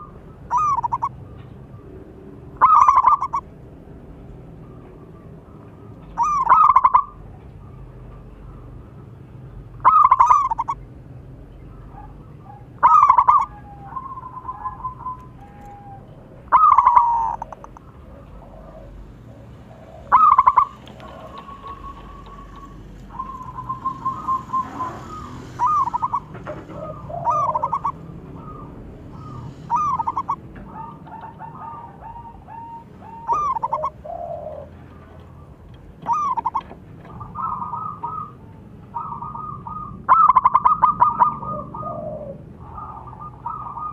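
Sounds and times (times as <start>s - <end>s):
dove cooing: 0.0s - 9.0s, 9.8s - 10.9s, 11.6s - 43.9s.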